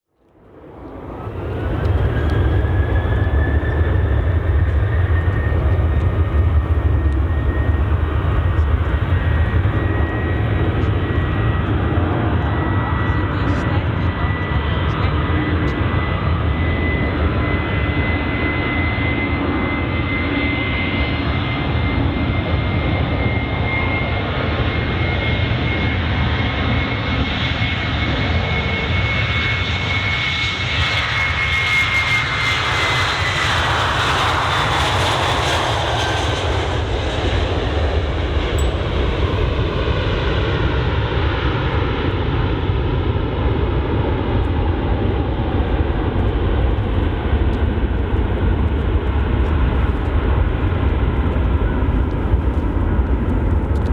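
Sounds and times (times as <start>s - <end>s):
jet engine high whine: 0.2s - 53.9s
jet roar: 0.3s - 53.9s.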